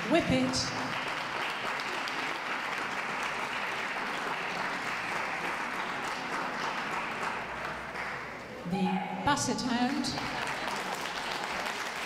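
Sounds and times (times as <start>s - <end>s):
crowd applauding: 0.0s - 8.5s, 9.7s - 12.0s.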